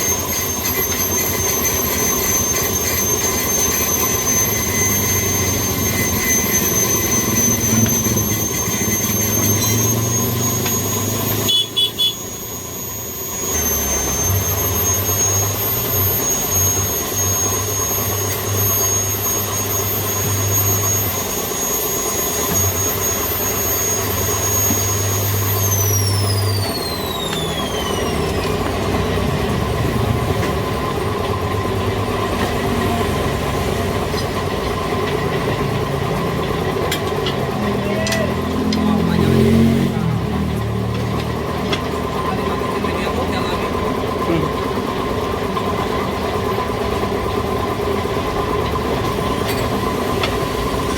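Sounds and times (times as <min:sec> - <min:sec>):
machinery high whine: 0:00.0 - 0:50.9
machinery low hum: 0:00.0 - 0:50.9.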